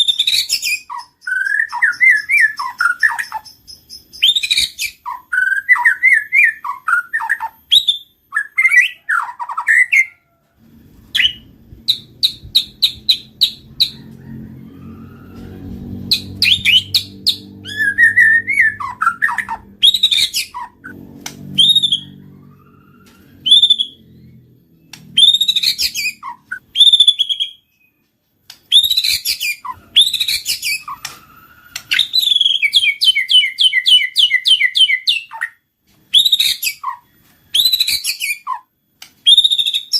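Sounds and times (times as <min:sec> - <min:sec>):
songbird whistling song: 0:00.0 - 0:10.3, 0:11.0 - 0:14.0, 0:15.3 - 0:39.9.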